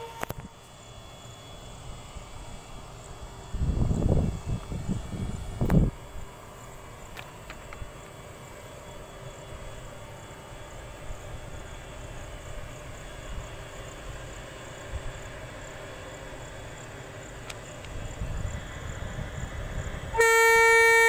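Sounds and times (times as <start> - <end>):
electric locomotive humming: 0.0 - 21.0.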